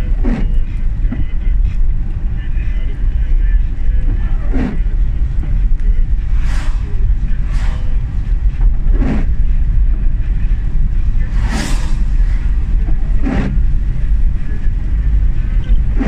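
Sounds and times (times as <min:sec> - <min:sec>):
car engine and tyres rumbling: 0:00.0 - 0:16.0
windscreen wiper swishing: 0:00.0 - 0:16.0.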